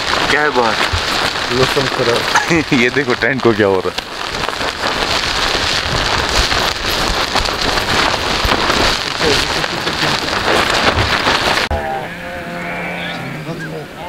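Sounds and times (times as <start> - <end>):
heavy rain on tent fabric: 0.0 - 11.9.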